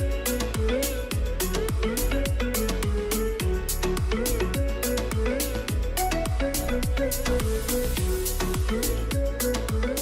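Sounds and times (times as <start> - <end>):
background music with deep drum beat: 0.0 - 10.0.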